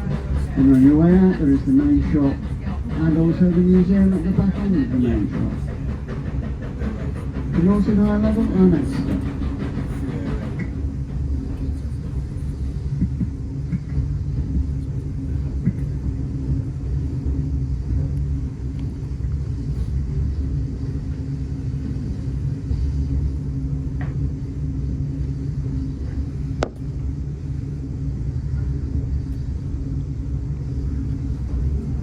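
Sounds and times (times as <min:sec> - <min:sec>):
train coach rumbling on track: 0:00.0 - 0:32.0.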